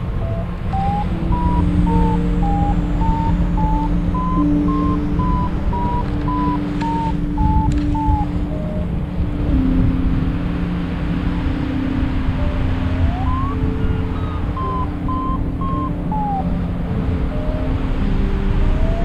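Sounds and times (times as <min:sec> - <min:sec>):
variometer beeping: 0:00.0 - 0:19.0
wind rumble on microphone: 0:00.0 - 0:19.0.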